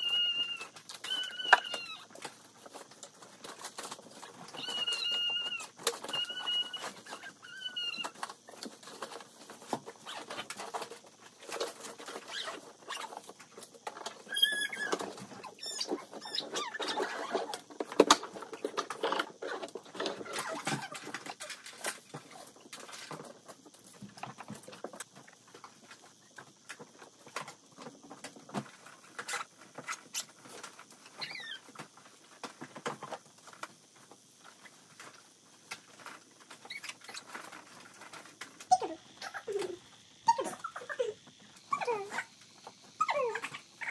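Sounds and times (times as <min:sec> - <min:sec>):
belongings rustling and clicking: 0:00.0 - 0:43.9.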